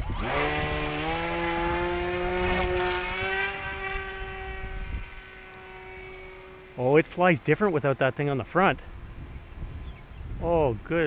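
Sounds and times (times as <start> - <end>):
electric motor propeller whine: 0.0 - 10.4.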